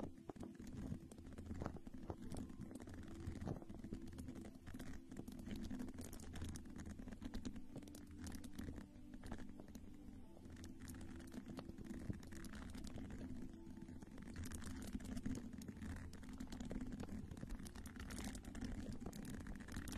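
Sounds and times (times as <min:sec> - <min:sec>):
crackling taps and rustles: 0:00.0 - 0:19.9
low steady hum: 0:00.0 - 0:19.9.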